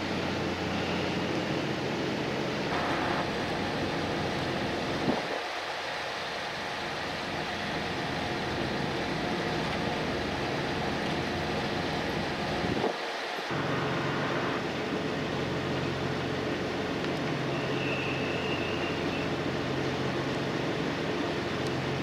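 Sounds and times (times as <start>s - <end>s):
low mechanical hum: 0.0s - 22.0s
outdoor hiss: 0.0s - 22.0s.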